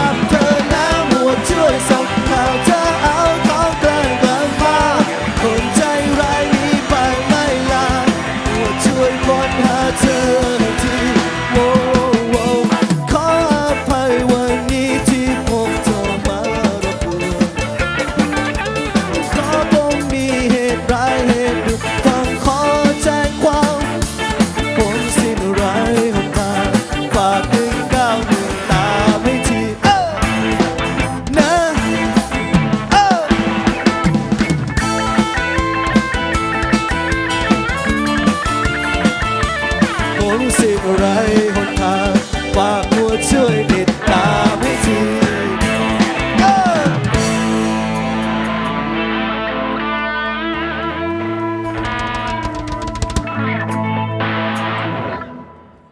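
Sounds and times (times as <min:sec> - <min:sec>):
drum kit beat: 0:00.0 - 0:50.0, 0:51.4 - 0:54.8
live rock band playing: 0:00.0 - 0:55.9.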